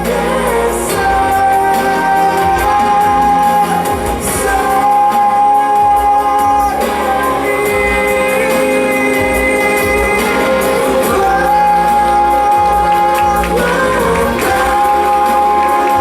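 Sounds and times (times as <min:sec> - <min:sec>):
singing with instrumental backing: 0:00.0 - 0:16.0.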